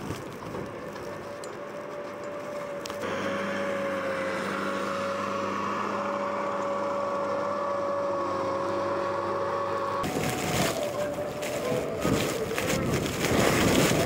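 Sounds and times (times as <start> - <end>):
machine drone with hum: 0.0 - 14.0.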